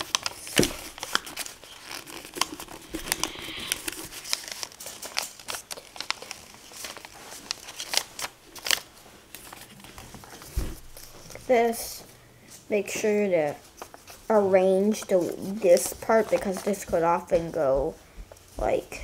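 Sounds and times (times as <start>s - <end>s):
paper crinkling and creasing: 0.0s - 12.1s, 12.8s - 17.8s.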